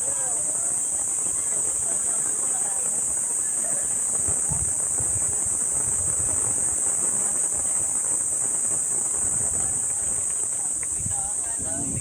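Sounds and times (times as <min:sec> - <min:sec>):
high-pitched hiss: 0:00.0 - 0:12.0
wind buffeting microphone: 0:00.0 - 0:12.0.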